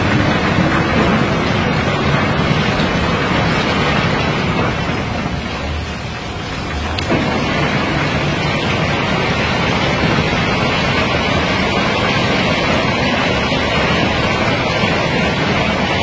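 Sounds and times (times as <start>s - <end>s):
stones rattling down concrete chute: 0.0s - 16.0s.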